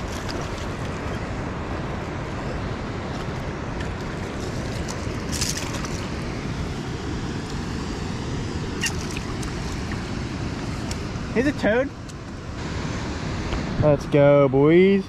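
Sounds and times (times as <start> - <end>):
river water rushing: 0.0 - 13.7.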